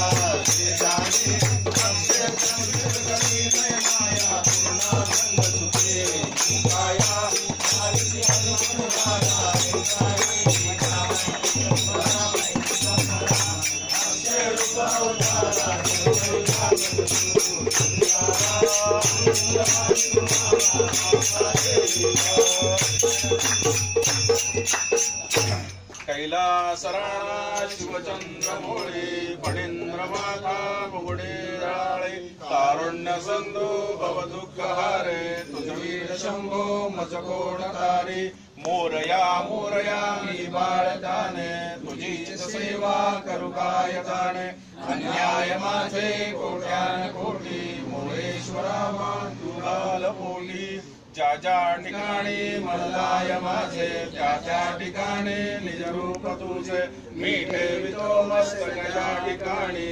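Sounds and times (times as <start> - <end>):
men chanting a prayer: 0.0 - 59.9.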